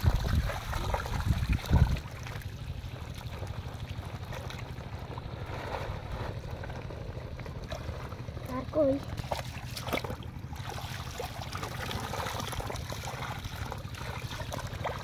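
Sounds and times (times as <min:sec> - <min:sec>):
footsteps sloshing in water: 0:00.0 - 0:15.0
low hum: 0:00.0 - 0:15.0
water splashes: 0:00.0 - 0:15.0.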